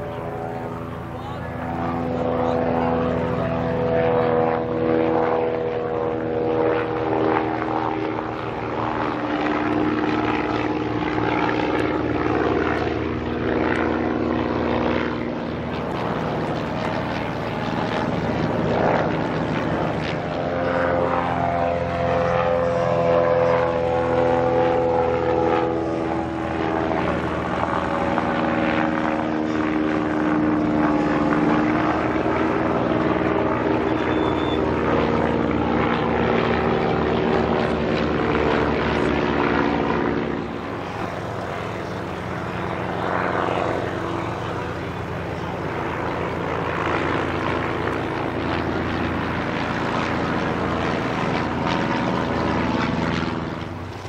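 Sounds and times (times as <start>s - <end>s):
propeller plane flyby drone: 0.0s - 54.0s.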